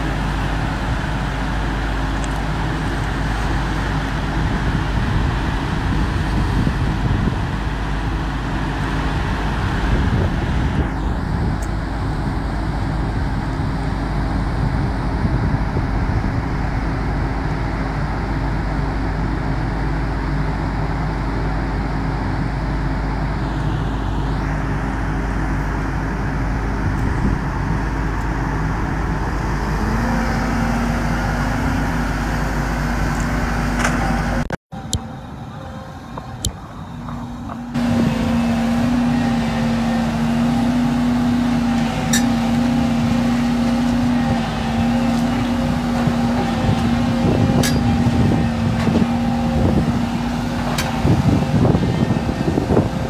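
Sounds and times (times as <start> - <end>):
excavator diesel engine: 0.0 - 53.0
hydraulic whine: 0.0 - 53.0.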